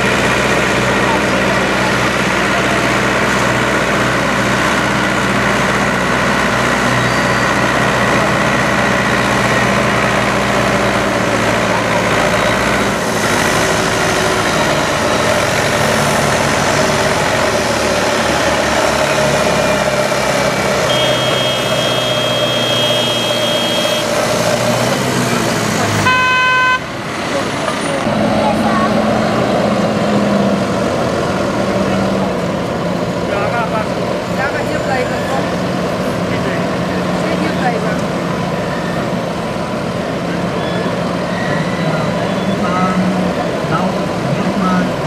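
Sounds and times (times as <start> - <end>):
tractor engine running hard: 0.0 - 45.0.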